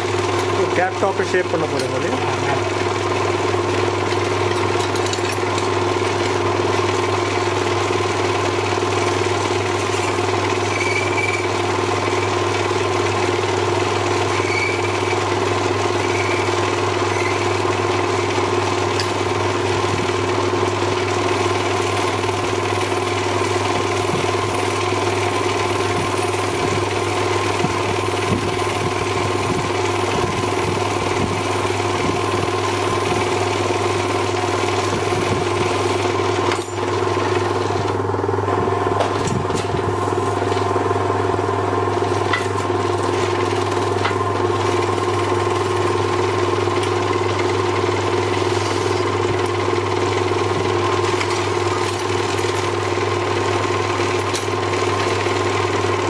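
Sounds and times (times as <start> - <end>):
cutting tool shaping workpiece: 0.0 - 38.0, 41.7 - 56.0
lathe humming: 0.0 - 56.0.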